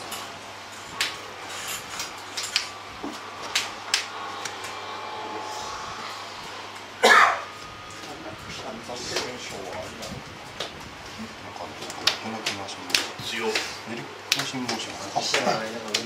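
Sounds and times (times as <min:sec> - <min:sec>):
room hum: 0:00.0 - 0:16.0.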